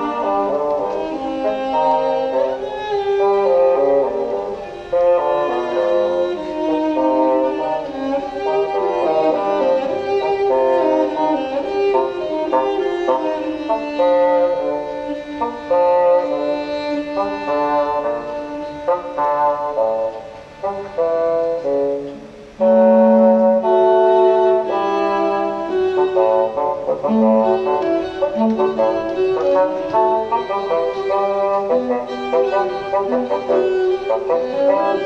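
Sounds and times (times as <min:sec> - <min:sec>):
chamber strings ensemble playing: 0:00.0 - 0:35.0.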